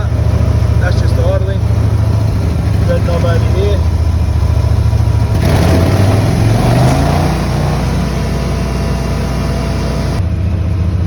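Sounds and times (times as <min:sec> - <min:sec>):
wood chipper engine revving: 0:00.0 - 0:10.2.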